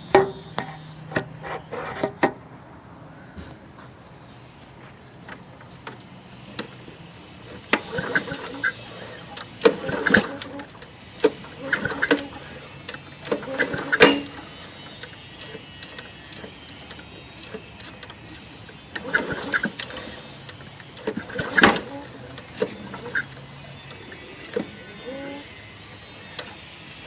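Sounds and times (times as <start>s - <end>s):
lawn mower engine cranking: 4.3s - 27.0s.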